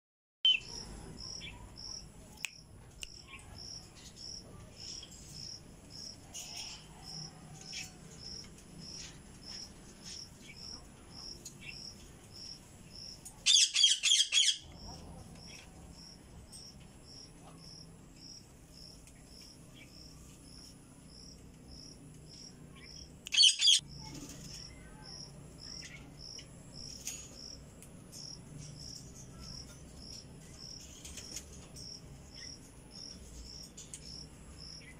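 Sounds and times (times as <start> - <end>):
cricket chirping: 0.5 - 34.9.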